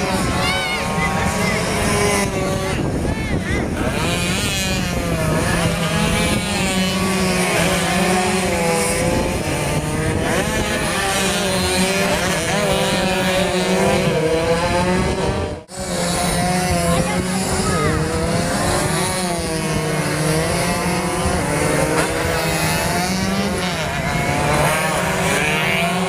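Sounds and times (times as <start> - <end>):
two-stroke motorcycles revving: 0.0 - 26.0.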